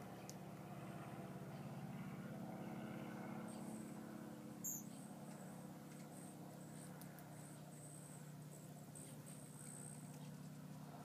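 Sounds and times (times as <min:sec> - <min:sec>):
faint mechanical hum: 0:00.0 - 0:11.0.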